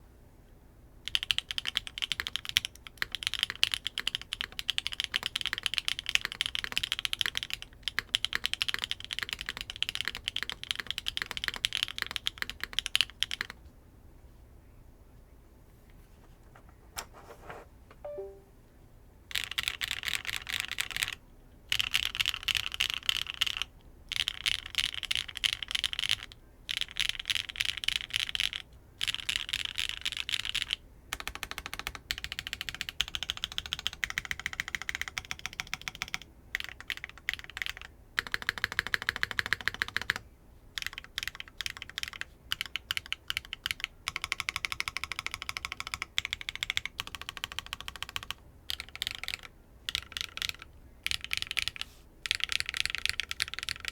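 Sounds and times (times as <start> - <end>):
mechanical keyboard typing: 1.1 - 13.6, 18.0 - 18.4, 19.3 - 40.2, 40.8 - 53.9.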